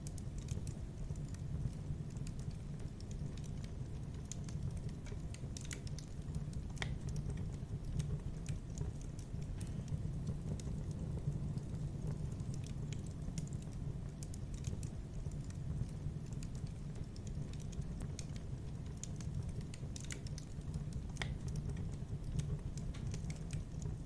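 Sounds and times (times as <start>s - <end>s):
low rumble of burning: 0.0s - 24.0s
wood fire crackling and popping: 0.0s - 24.0s.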